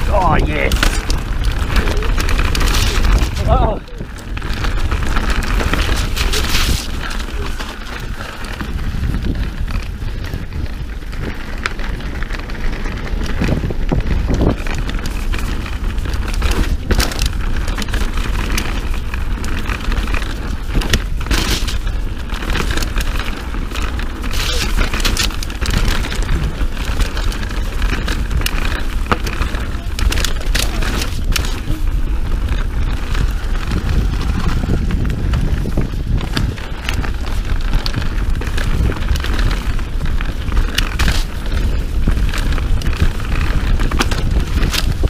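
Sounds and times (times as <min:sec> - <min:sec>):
bike knocking and rattling: 0:00.0 - 0:45.0
tyres on dirt: 0:00.0 - 0:45.0
wind buffeting microphone: 0:00.0 - 0:45.0.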